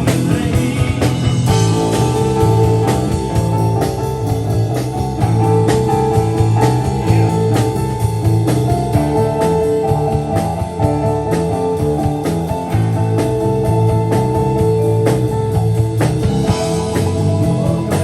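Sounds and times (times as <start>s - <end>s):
electric guitar: 0.0s - 18.0s
live rock band playing: 0.0s - 18.0s
steady drum beat: 0.0s - 18.0s.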